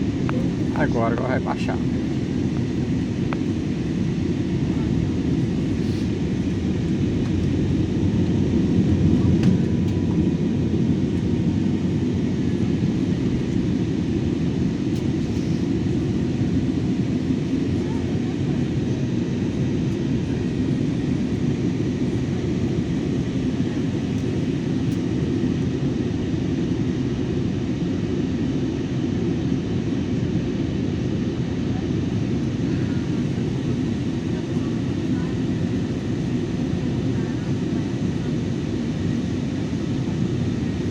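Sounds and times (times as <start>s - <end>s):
airliner engine drone in cabin: 0.0s - 40.9s.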